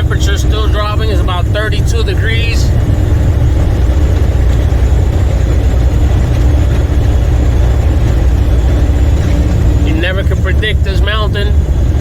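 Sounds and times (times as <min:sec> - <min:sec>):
road noise: 0:00.0 - 0:12.0
truck diesel engine droning: 0:00.0 - 0:12.0.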